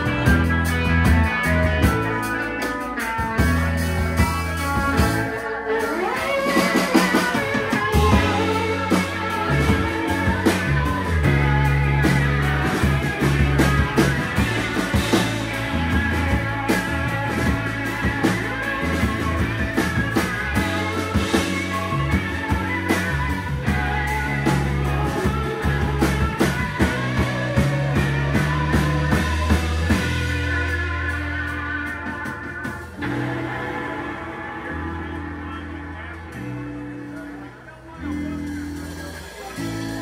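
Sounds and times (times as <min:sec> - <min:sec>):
bass line: 0:00.0 - 0:40.0
drum-kit beats: 0:00.0 - 0:40.0
electric guitars: 0:00.0 - 0:40.0
live rock band playing: 0:00.0 - 0:40.0.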